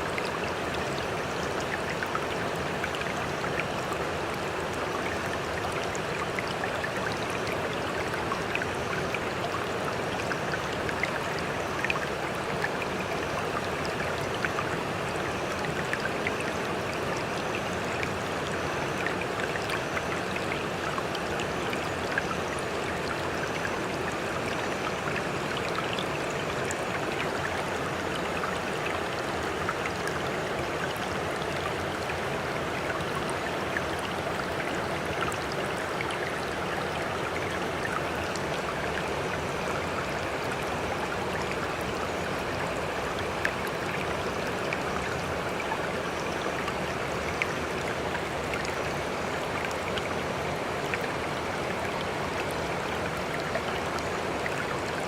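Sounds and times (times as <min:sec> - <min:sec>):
water drips and splashes: 0:00.0 - 0:55.0.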